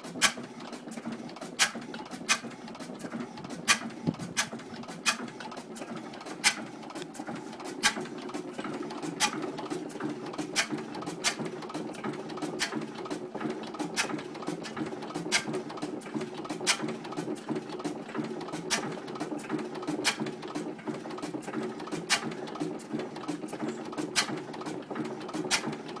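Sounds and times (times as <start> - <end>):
sharp engine clicks: 0.0 - 26.0
stationary gas engine hum: 0.0 - 26.0.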